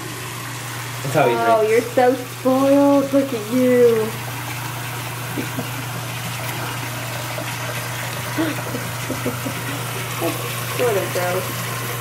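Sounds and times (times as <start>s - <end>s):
faucet running into sink: 0.0s - 12.0s.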